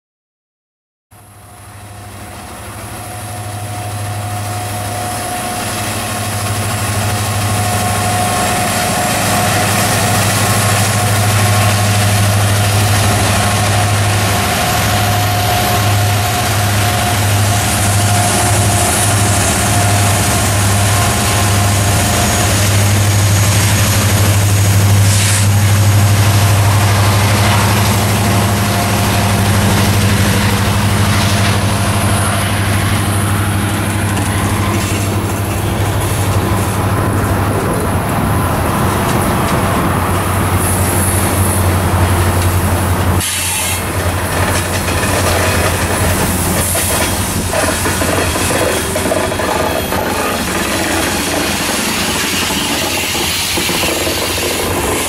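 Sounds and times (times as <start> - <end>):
diesel locomotive engine drone: 1.1 - 55.0.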